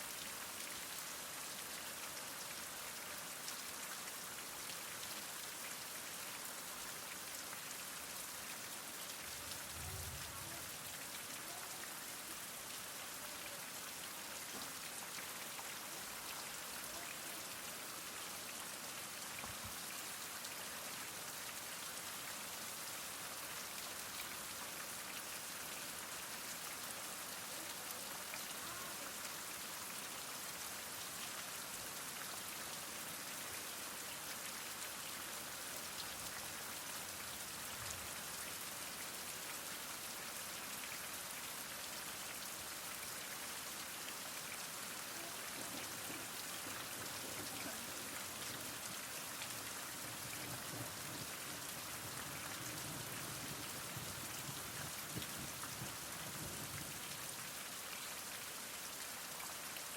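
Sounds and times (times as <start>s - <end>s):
heavy rain falling: 3.2s - 22.0s, 22.7s - 39.1s, 42.3s - 57.9s.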